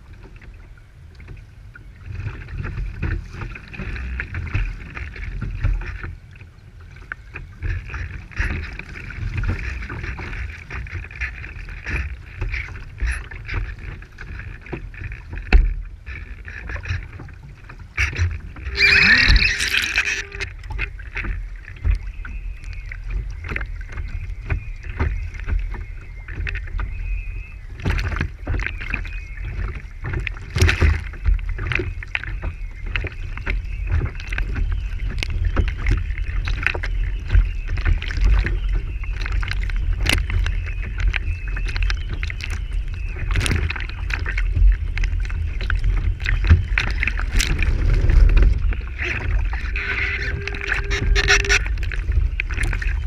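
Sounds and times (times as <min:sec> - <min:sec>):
constant low rumble: 0:00.0 - 0:53.0
water slapping against hull: 0:00.0 - 0:53.0.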